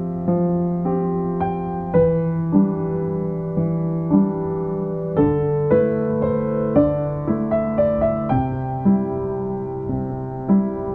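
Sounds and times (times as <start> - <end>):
soft piano music: 0.0 - 10.9.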